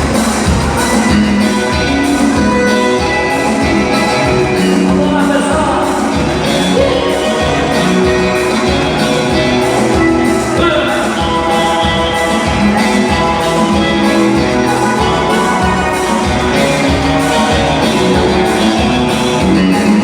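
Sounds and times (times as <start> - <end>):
band playing dance music: 0.0 - 20.0.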